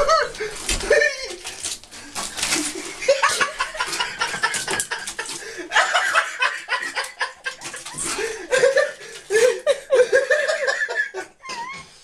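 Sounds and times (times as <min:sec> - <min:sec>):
person laughing: 0:00.0 - 0:01.5, 0:02.8 - 0:11.8.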